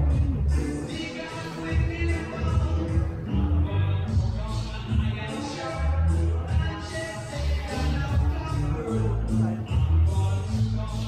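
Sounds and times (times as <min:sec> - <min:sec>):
steady bass beat: 0:00.0 - 0:11.0.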